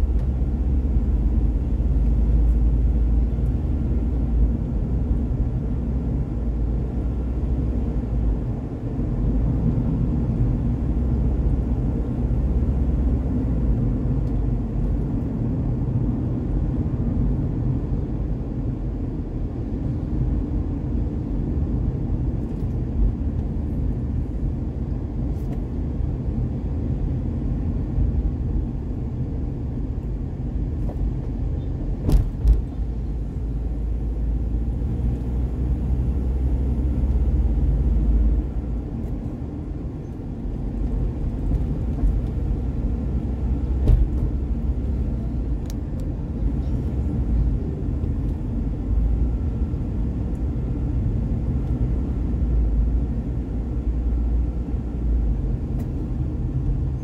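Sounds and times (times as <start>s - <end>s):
vehicle driving low rumble: 0.0s - 57.0s.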